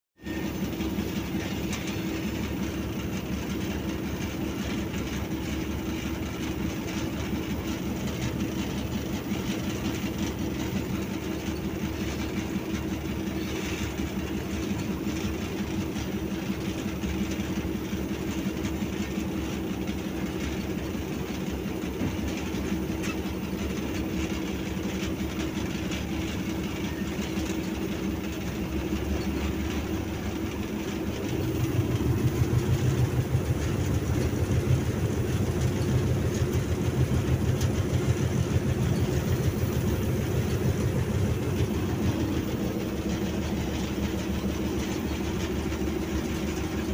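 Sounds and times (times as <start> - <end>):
locomotive engine drone: 0.2 - 46.9
wheels rumbling on track: 0.2 - 46.9.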